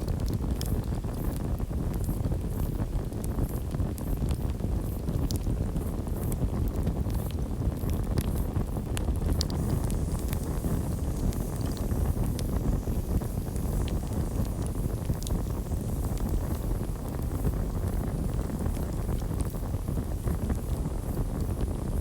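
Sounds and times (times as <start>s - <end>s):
burning wood crackling and popping: 0.0s - 22.0s
campfire low rumble: 0.0s - 22.0s.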